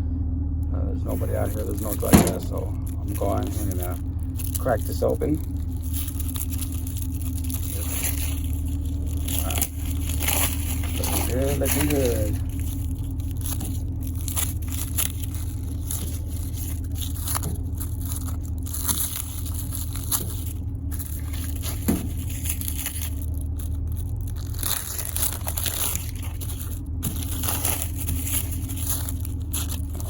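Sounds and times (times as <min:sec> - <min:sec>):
steady low hum: 0:00.0 - 0:30.0
packaging crinkling and tearing: 0:01.1 - 0:30.0.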